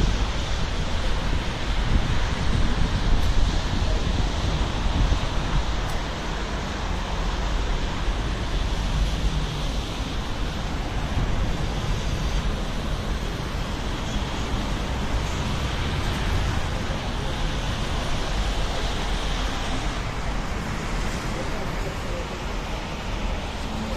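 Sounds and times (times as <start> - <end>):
wind on microphone: 0.0 - 21.4
jet engines rumbling: 0.0 - 23.9.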